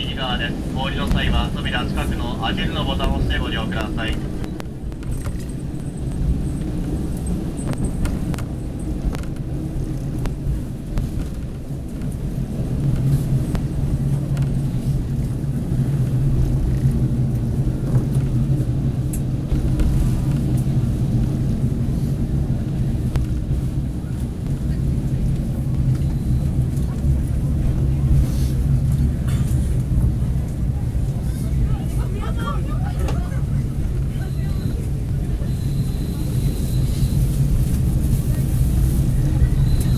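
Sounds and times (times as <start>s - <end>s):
diesel engine drone: 0.0s - 39.9s
wheels rumbling on rail: 0.0s - 39.9s.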